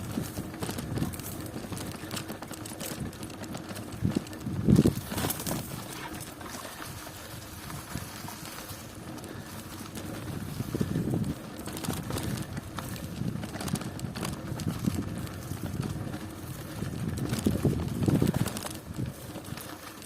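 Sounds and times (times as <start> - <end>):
bicycle on rough road: 0.0 - 20.0
wind buffeting microphone: 0.0 - 20.0.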